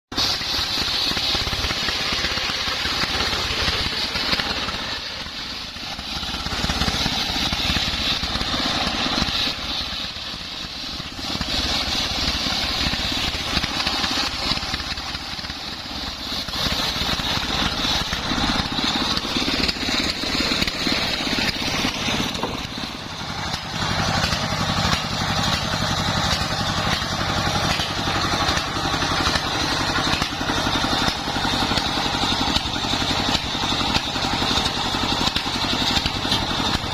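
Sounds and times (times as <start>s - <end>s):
circular saw cutting wood: 0.1s - 36.9s
engine drone: 0.1s - 36.9s.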